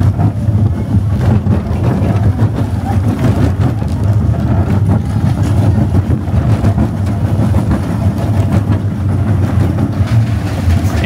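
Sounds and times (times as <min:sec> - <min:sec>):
coaster cars rattling: 0:00.0 - 0:11.0
roller coaster rumbling on track: 0:00.0 - 0:11.0.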